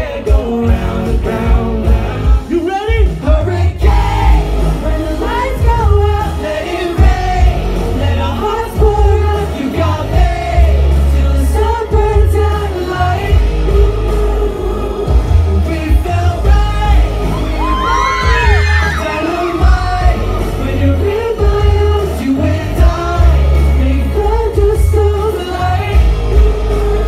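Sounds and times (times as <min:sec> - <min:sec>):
men singing over bass-heavy track: 0:00.0 - 0:27.0.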